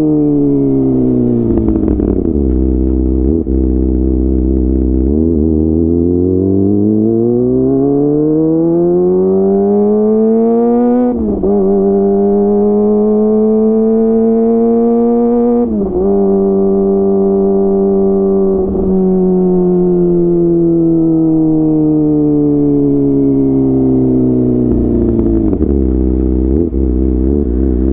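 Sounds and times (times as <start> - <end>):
motorcycle engine revving through gears: 0.0 - 27.9.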